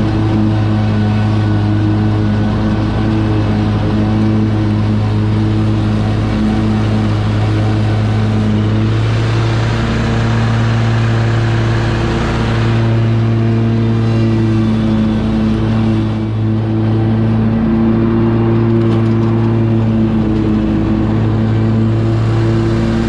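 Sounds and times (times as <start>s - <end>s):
mower engine droning: 0.0s - 23.0s.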